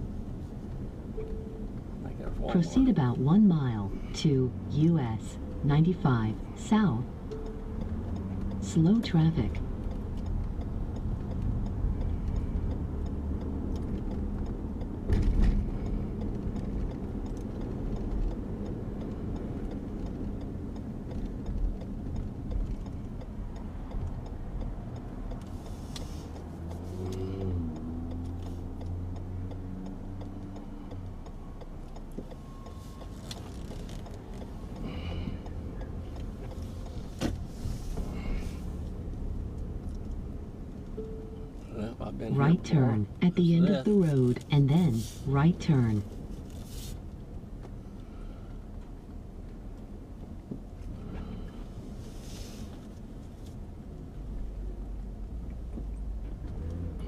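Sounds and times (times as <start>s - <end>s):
car engine: 0.0s - 57.0s
road noise inside car: 0.0s - 57.0s.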